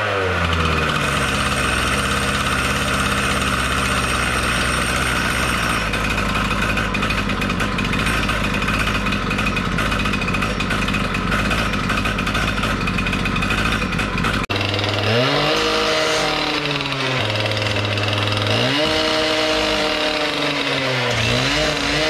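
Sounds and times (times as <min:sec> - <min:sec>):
two-stroke saw idling fast: 0:00.0 - 0:22.0.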